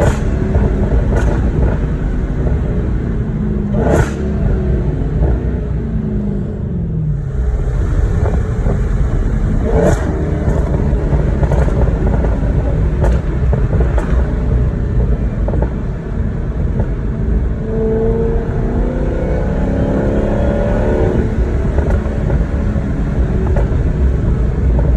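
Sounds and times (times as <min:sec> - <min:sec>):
exhaust cracks: 0:00.0 - 0:05.8, 0:07.1 - 0:17.7, 0:18.3 - 0:24.9
loud car engine running: 0:00.0 - 0:24.9.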